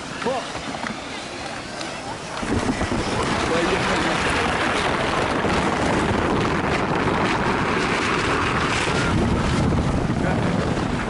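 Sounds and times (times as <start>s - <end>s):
sled sliding on ice: 0.0s - 11.0s
wind on microphone: 2.0s - 11.0s.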